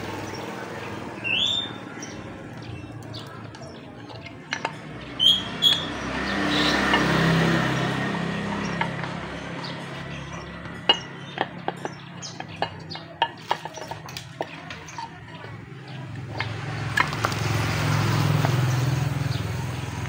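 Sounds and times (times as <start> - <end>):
metal tools clinking on metal: 1.4 - 19.4.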